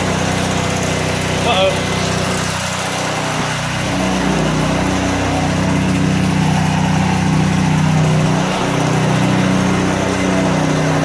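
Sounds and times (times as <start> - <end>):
small gas engine running: 0.0 - 11.0.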